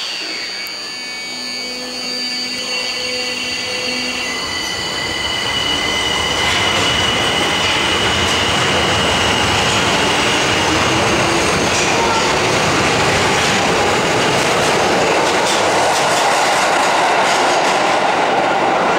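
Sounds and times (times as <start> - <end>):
high-pitched train tones: 0.0 - 16.8
subway train motors and wheels: 0.0 - 18.9.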